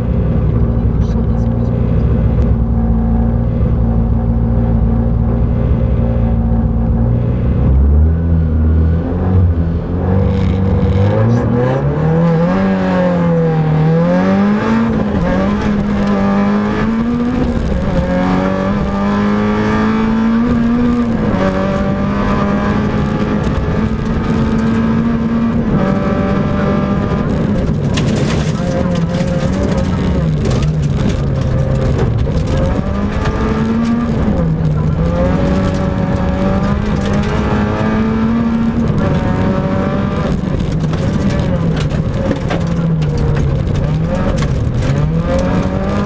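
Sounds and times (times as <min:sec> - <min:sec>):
rally car engine revving: 0:00.0 - 0:46.0.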